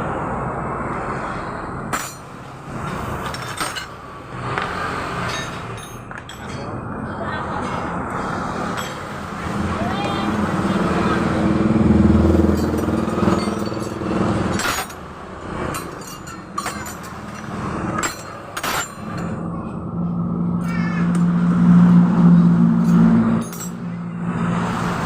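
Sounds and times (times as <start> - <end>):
engine hum: 0.0 - 25.0.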